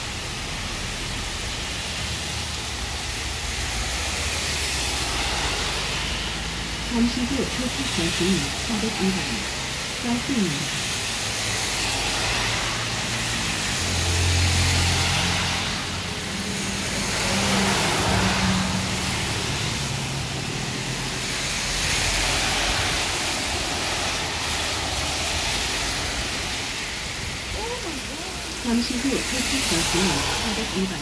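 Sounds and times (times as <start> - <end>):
heavy rain on wet road: 0.0 - 31.0
tyres swishing through water: 0.0 - 31.0.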